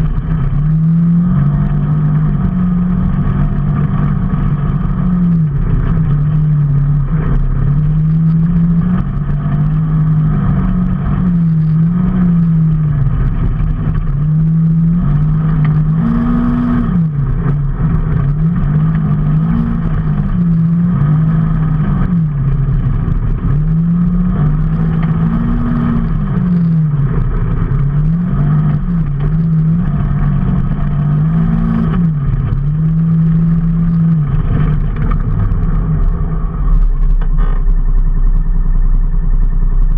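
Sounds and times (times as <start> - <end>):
motorcycle engine revving: 0.0 - 38.1
road and wind noise: 0.0 - 39.9.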